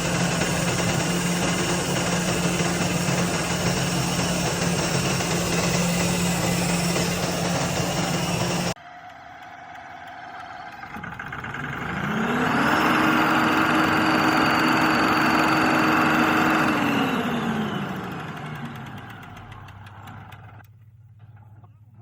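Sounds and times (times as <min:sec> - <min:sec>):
diesel engine revving: 0:00.0 - 0:20.6.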